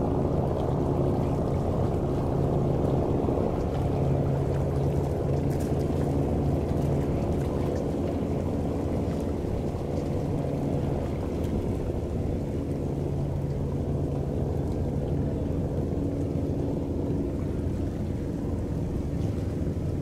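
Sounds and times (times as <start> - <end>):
ferry engine hum: 0.0 - 20.0
water rushing from wake: 0.0 - 20.0.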